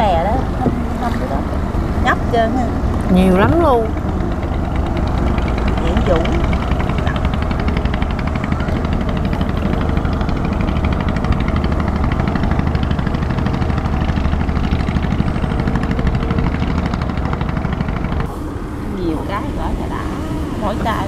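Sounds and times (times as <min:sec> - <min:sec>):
small boat engine chugging: 0:00.0 - 0:21.0.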